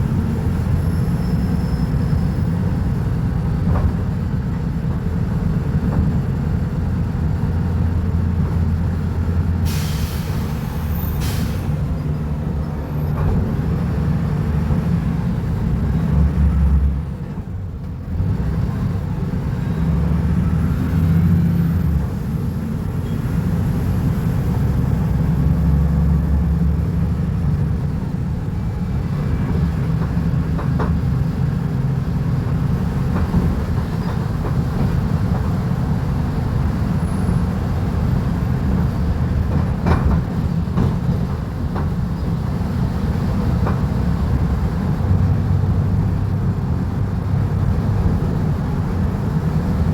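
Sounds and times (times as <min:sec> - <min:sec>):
bus diesel engine droning: 0:00.0 - 0:49.9.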